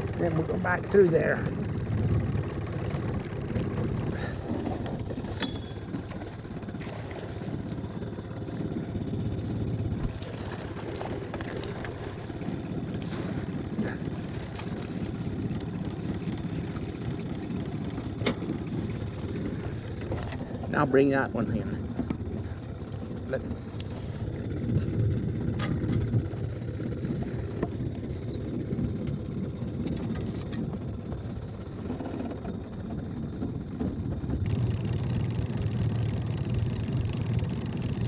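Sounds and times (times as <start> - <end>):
outboard motor running: 0.0 - 38.0
wind buffeting microphone: 0.0 - 38.0.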